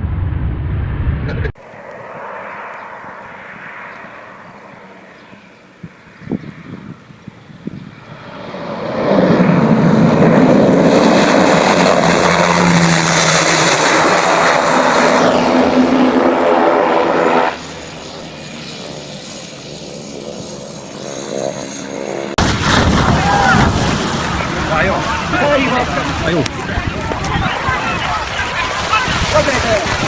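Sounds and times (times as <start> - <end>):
falling whine: 0.0 - 6.3, 7.7 - 30.0
aircraft engine noise: 0.0 - 30.0.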